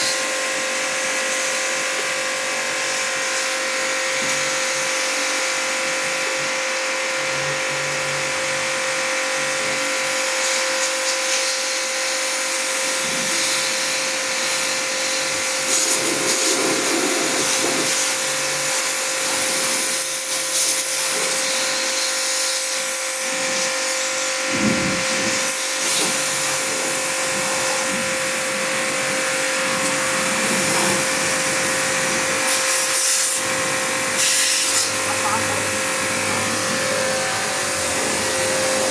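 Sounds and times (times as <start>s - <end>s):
pressure washer hiss: 0.0s - 6.6s, 9.4s - 38.9s
pressure washer motor hum: 0.0s - 38.9s.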